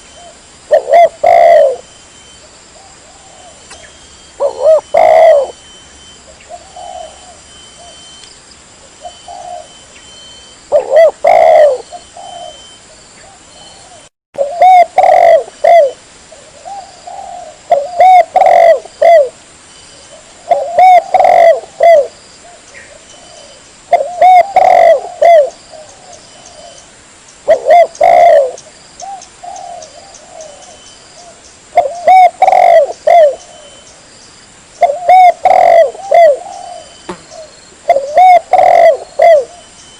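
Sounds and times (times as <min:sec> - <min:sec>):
dove cooing: 0:00.0 - 0:05.7, 0:06.4 - 0:08.2, 0:08.8 - 0:10.0, 0:10.7 - 0:19.4, 0:20.0 - 0:26.8, 0:27.4 - 0:34.0, 0:34.8 - 0:39.7.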